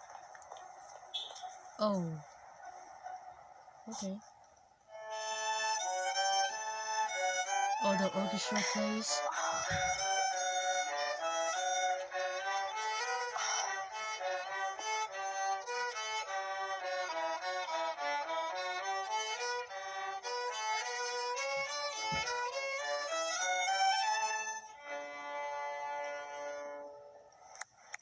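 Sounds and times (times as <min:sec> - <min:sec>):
violin melody: 0:04.9 - 0:27.6.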